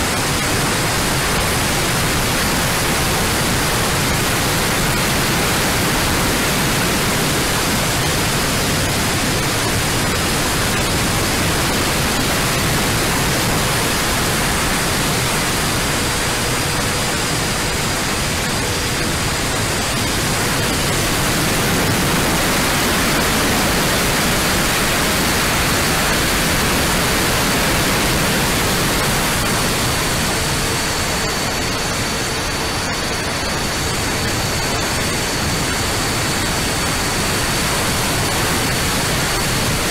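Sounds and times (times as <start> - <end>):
electric ducted fans hissing: 0.0 - 39.9.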